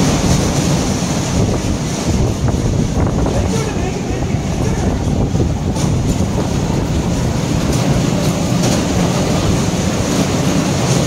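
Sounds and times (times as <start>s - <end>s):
ride car rumbling on rail track: 0.0s - 11.0s.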